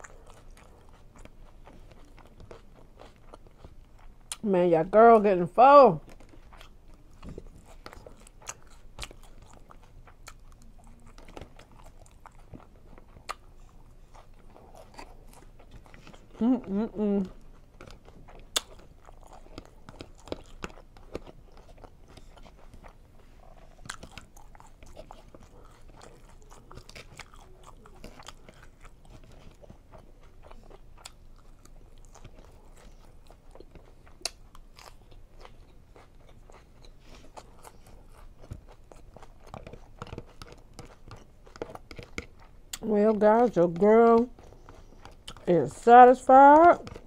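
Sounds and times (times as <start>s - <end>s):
person chewing salad: 0.0s - 47.0s.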